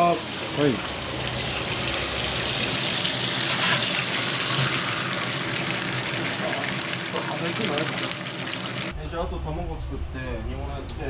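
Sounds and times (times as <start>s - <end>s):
eggs and bacon sizzling in pan: 0.0s - 9.0s.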